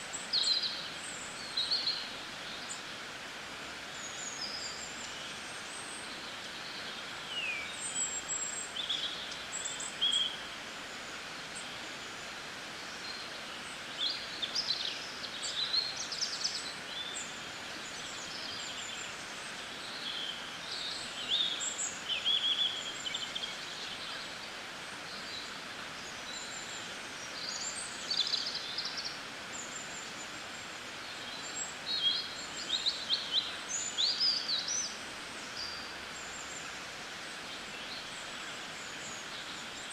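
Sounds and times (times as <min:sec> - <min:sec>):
outdoor background hiss: 0:00.0 - 0:39.9
small birds chirping: 0:03.8 - 0:39.9.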